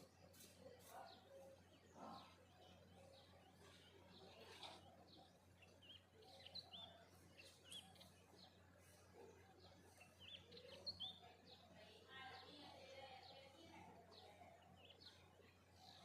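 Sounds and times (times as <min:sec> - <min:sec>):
faint low hum: 0:00.0 - 0:16.0
songbirds chirping: 0:00.0 - 0:16.0.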